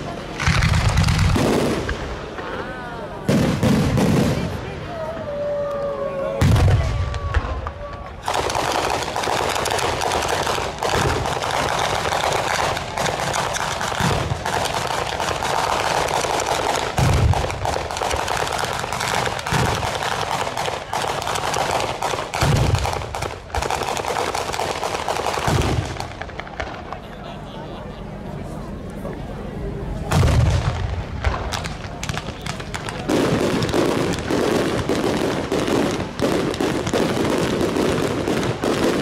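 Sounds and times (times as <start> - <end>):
rapid crackling bangs: 0.0 - 2.5, 3.2 - 4.8, 6.4 - 27.1, 30.1 - 39.0
firework booms: 0.0 - 2.6, 3.2 - 5.1, 6.4 - 27.0, 30.1 - 39.0.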